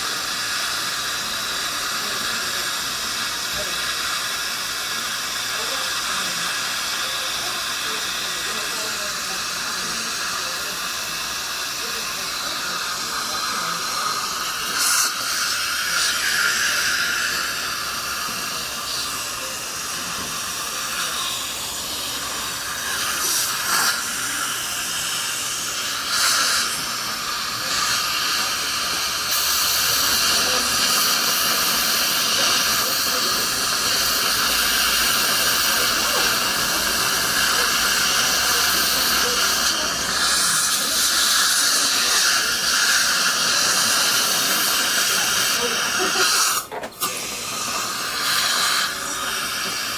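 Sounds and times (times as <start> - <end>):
dental equipment hissing: 0.0 - 49.9.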